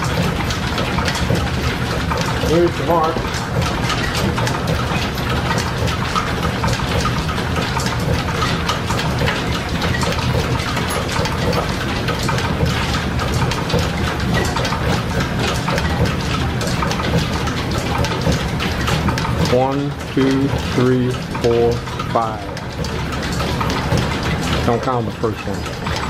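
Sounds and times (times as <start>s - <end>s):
belt-driven lathe clattering: 0.0s - 26.0s
rapid ticks from belts: 0.0s - 26.0s.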